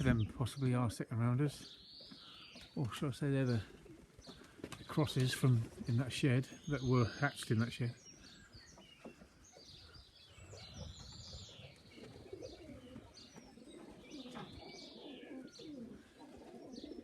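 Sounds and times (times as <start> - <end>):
high arching bird chirps: 1.6 - 2.8, 3.4 - 17.0
pigeons cooing: 1.6 - 17.0.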